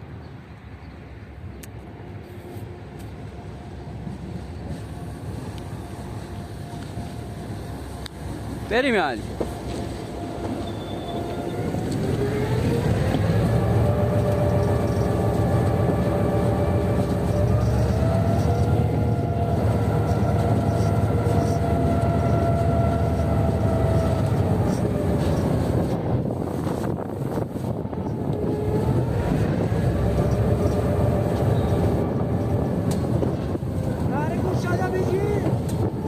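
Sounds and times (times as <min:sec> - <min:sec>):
diesel locomotive engine throttling up: 0:01.6 - 0:36.0.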